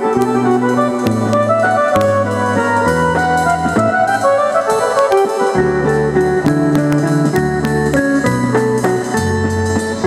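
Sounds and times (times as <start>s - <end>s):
accordion melody: 0.0s - 10.0s
drum kit and cymbal hits: 0.0s - 10.0s
sustained bass line: 0.0s - 10.0s.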